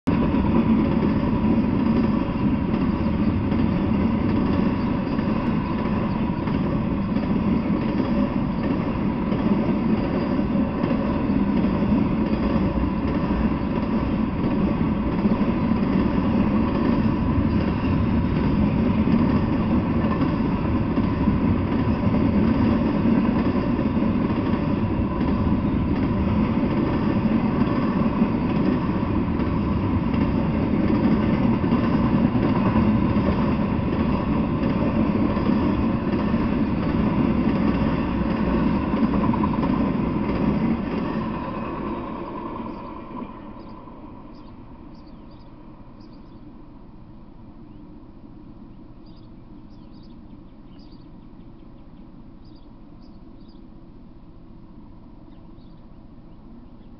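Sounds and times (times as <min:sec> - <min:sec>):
train wheels on rails: 0:00.1 - 0:56.9.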